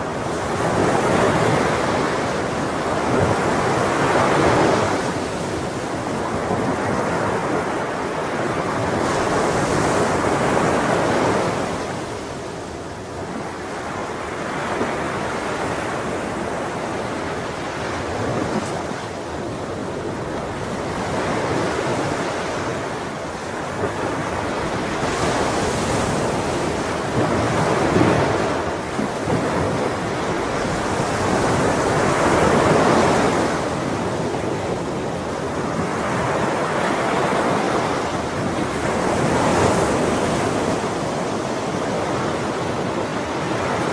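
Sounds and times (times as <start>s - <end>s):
ocean waves breaking on shore: 0.0s - 43.9s.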